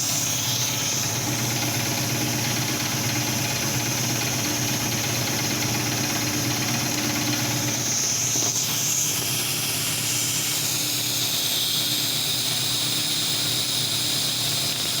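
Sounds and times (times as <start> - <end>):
welding machine hum and hiss: 0.0 - 15.0.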